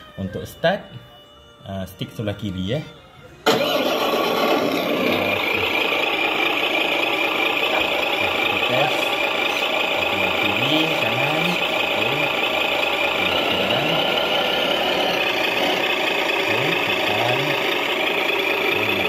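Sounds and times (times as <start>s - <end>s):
truck engine idling: 0.4s - 19.0s.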